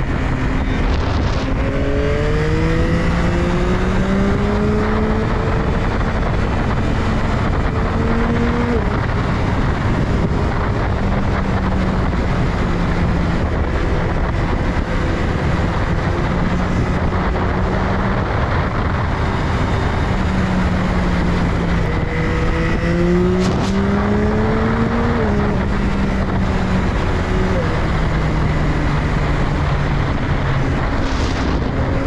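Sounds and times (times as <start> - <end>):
motorcycle engine running: 0.0 - 32.0
wind and road noise: 0.0 - 32.0.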